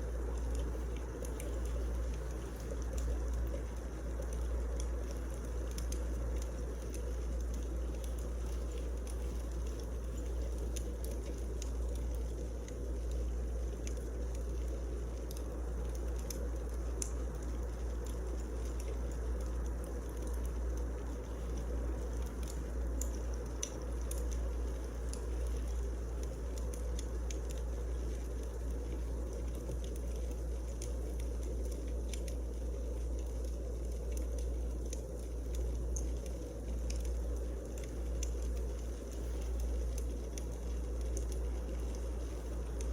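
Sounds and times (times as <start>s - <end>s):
firewood burning: 0.0s - 42.9s.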